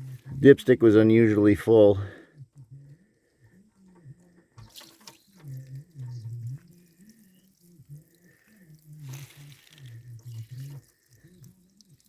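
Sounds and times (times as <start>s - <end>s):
water trickling and gurgling: 1.6s - 12.0s.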